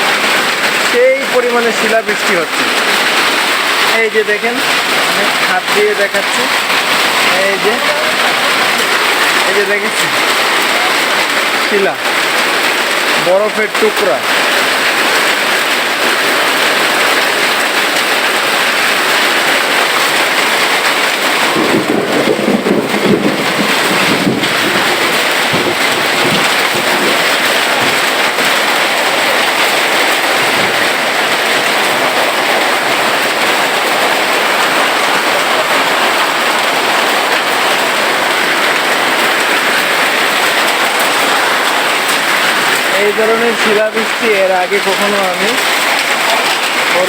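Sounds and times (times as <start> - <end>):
heavy hail and rain falling: 0.0 - 47.0.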